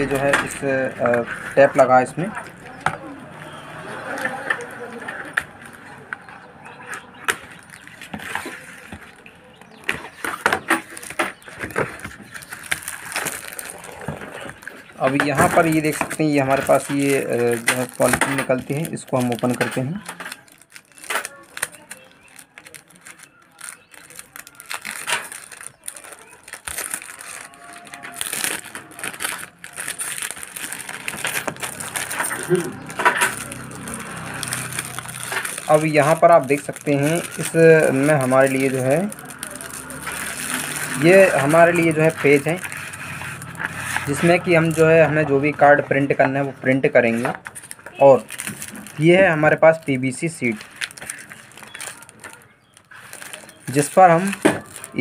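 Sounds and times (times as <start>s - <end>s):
paper wrapping rustling and crackling: 0.0s - 55.0s.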